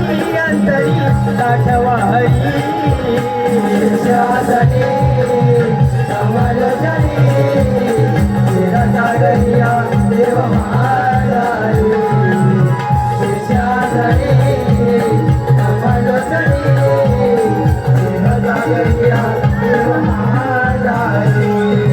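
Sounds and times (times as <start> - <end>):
hand drum beating quick rhythm: 0.0 - 21.9.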